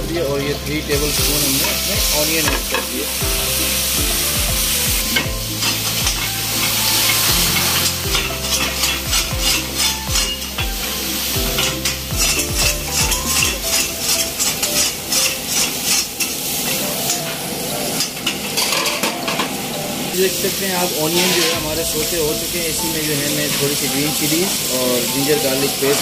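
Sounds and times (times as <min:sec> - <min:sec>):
food sizzling in a wok: 0:00.0 - 0:26.0
ladle scraping and clinking wok: 0:00.2 - 0:26.0.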